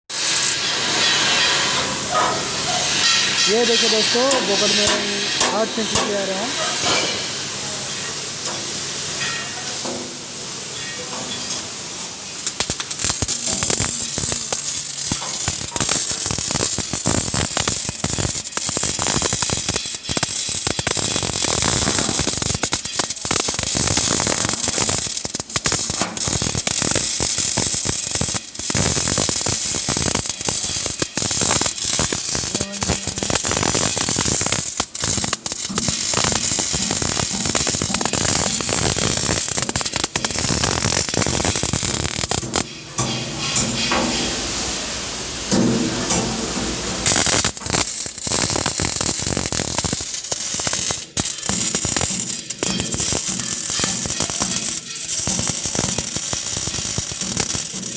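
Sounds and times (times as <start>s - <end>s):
welding arc crackling: 0.1s - 57.9s.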